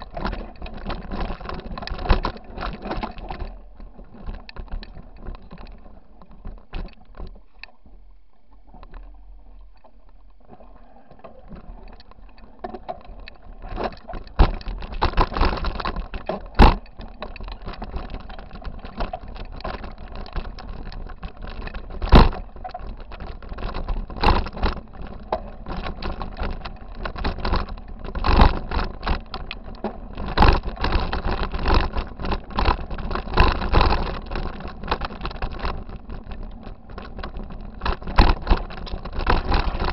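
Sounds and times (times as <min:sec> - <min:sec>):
mountain bike rattling over rocks: 0:00.0 - 0:07.5, 0:10.4 - 0:39.9.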